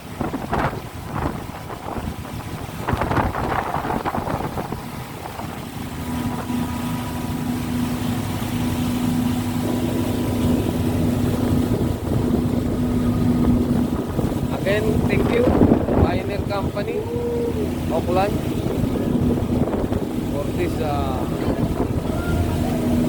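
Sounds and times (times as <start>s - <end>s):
motorboat engine running: 0.0s - 23.0s
water rushing: 0.0s - 23.0s
wind buffeting microphone: 0.0s - 23.0s.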